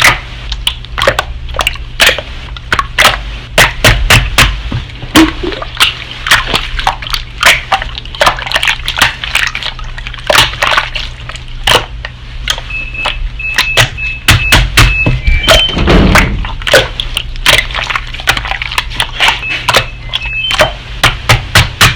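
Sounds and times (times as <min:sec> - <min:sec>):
slime squelching by hand: 0:00.0 - 0:21.9.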